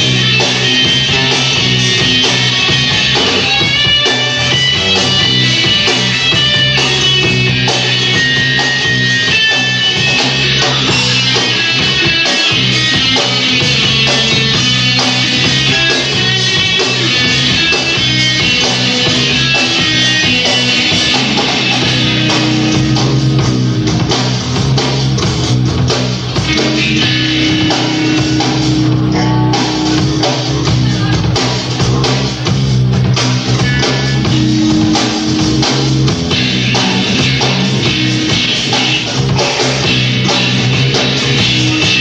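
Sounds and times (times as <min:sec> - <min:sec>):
drum kit: 0:00.0 - 0:42.0
electric guitars: 0:00.0 - 0:42.0.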